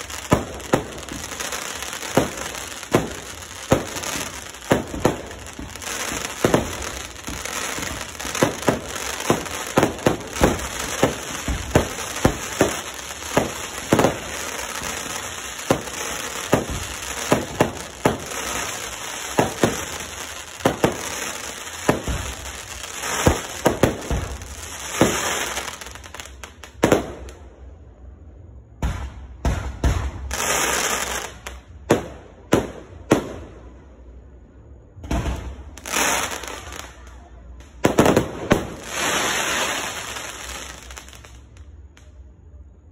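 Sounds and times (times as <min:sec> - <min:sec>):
fireworks bangs: 0:00.0 - 0:27.4, 0:28.7 - 0:34.1, 0:34.8 - 0:41.9
fireworks crackling and hiss: 0:00.0 - 0:27.9, 0:28.8 - 0:42.9.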